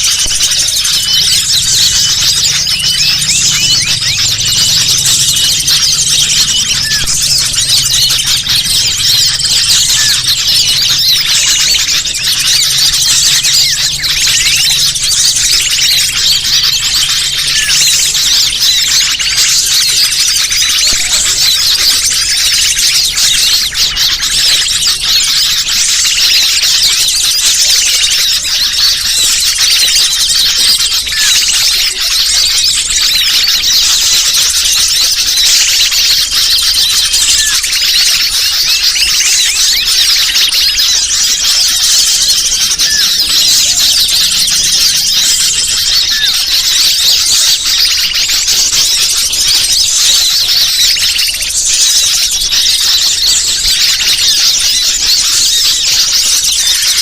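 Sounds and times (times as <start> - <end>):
small birds chattering and twittering: 0.0 - 57.0.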